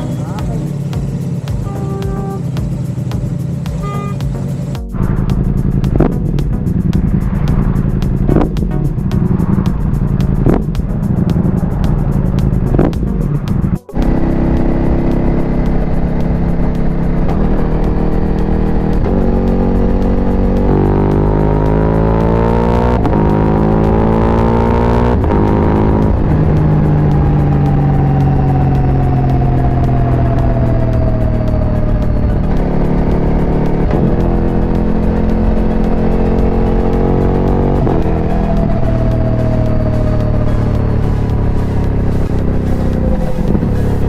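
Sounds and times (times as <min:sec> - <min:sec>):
motorcycle engine shifting gears: 0:00.0 - 0:44.0.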